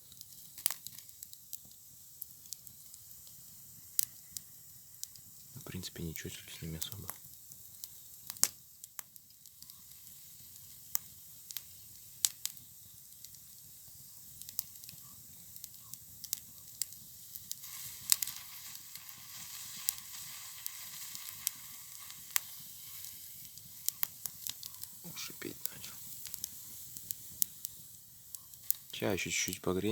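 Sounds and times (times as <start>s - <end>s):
campfire crackling and popping: 0.0s - 29.9s
object hissing in fire: 0.0s - 29.9s.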